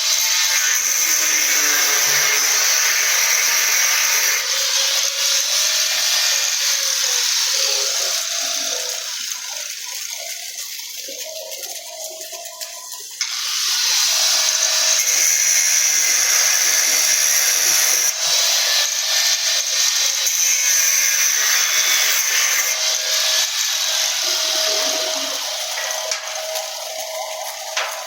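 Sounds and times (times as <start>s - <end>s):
power tool high-pitched hiss: 0.0s - 28.0s.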